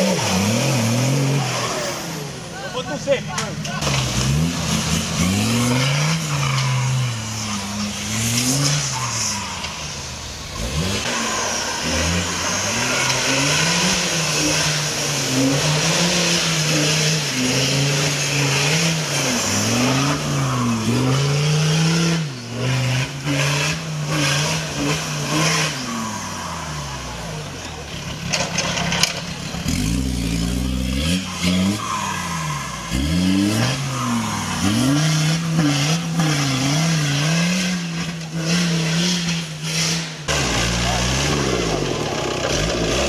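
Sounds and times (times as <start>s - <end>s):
vehicle engine revving: 0.0s - 43.0s.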